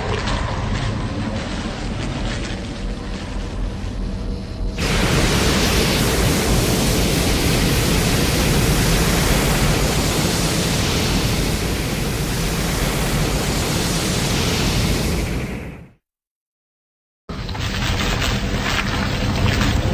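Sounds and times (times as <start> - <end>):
loud rushing noise with rumble: 0.0 - 16.0.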